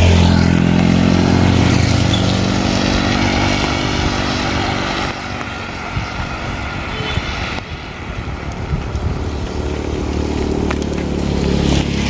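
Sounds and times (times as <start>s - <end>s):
vehicle engine passing: 0.0s - 12.0s
rain hissing: 0.5s - 12.0s.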